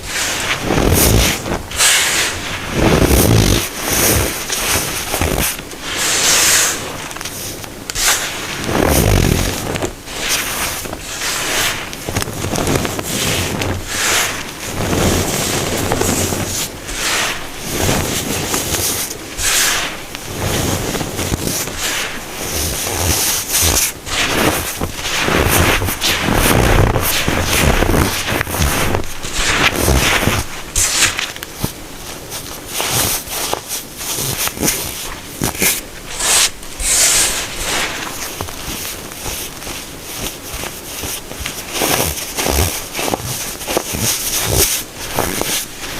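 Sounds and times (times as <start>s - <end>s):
baking soda crunching: 0.1s - 45.9s.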